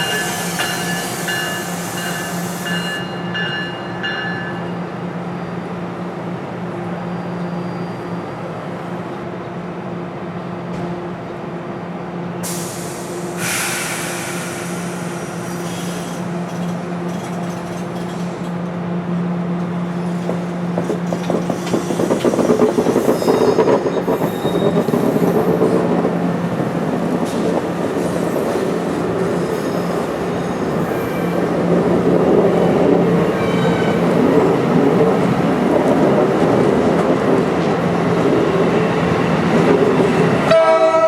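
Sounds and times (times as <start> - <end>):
train humming: 0.0 - 41.0.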